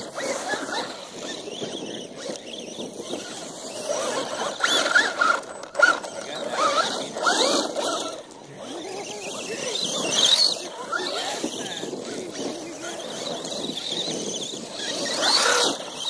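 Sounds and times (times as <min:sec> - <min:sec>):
toy truck motor whining: 0:00.0 - 0:16.0.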